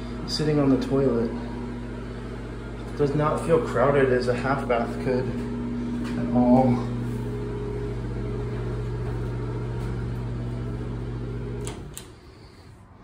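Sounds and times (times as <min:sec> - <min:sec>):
exhaust fan humming: 0:00.0 - 0:13.0.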